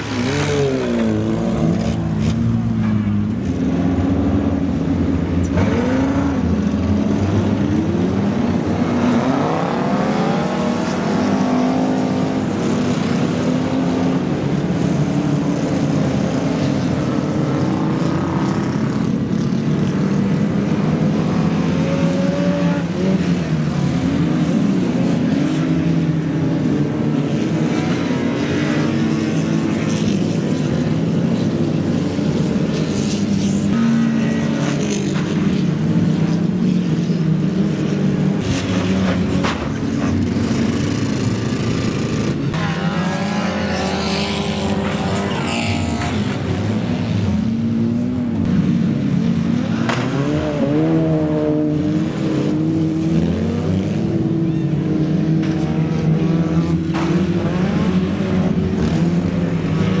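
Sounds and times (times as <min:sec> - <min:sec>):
car engines revving: 0:00.0 - 1:00.0.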